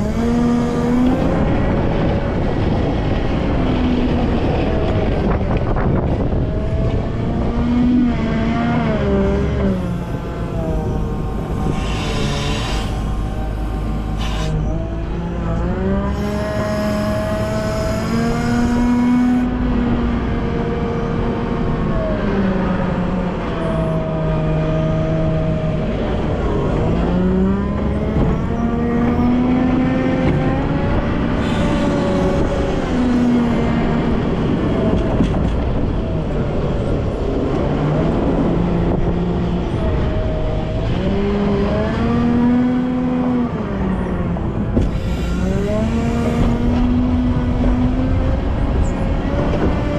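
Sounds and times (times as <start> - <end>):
wheel loader diesel engine revving: 0.0 - 49.9.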